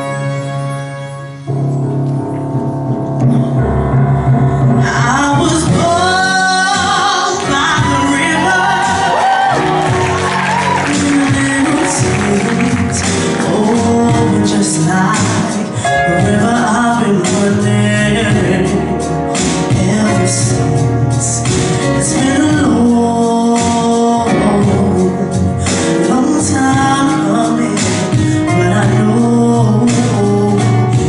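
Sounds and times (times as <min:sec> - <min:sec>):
backing band: 0:00.0 - 0:31.0
woman singing: 0:04.3 - 0:31.0.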